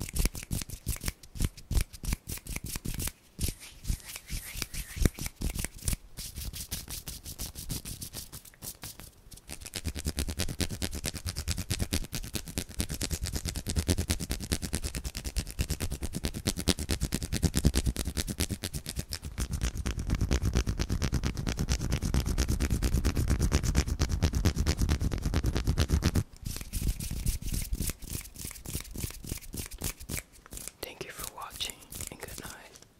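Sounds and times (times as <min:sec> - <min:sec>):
hands rubbing and tapping: 0:00.0 - 0:32.9.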